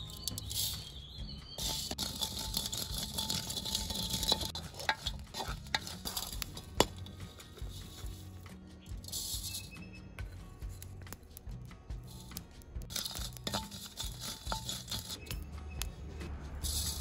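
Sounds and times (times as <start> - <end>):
seeds rattling in a clay pot: 0.0 - 17.0.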